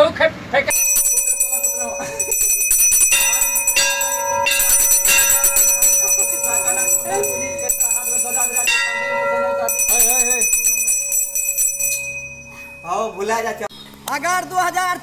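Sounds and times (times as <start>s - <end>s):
hand bell ringing: 0.7s - 13.7s.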